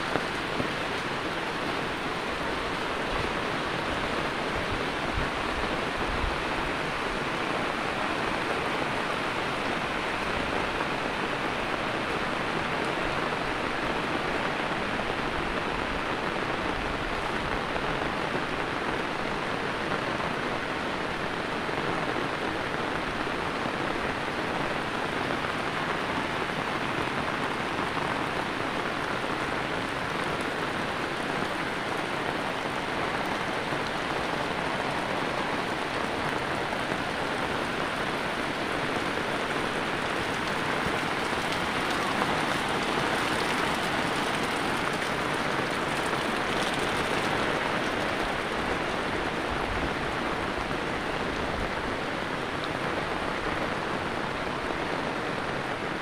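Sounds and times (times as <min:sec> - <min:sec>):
heavy rain on a wet road: 0:00.0 - 0:56.0.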